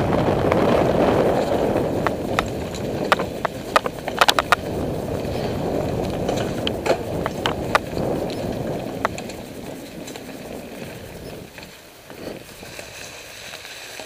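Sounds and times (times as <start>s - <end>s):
bike clicks and rattles: 0.0s - 14.0s
bike tyres rushing on dirt: 0.0s - 14.0s.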